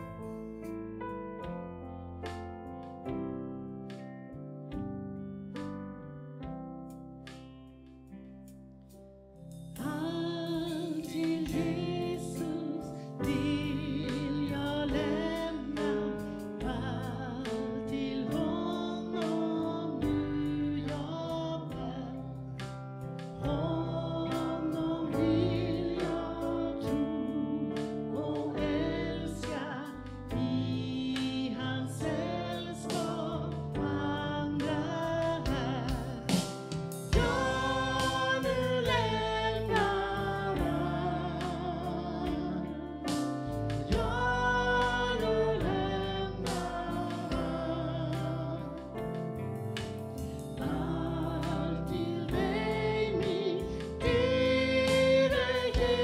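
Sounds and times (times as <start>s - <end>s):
congregation singing with instruments: 9.8s - 56.0s.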